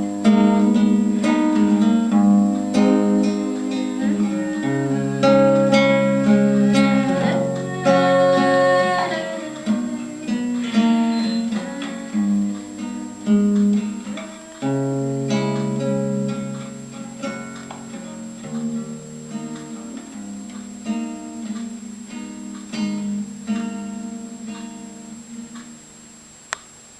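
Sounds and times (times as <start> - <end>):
acoustic guitar playing: 0.0 - 26.5.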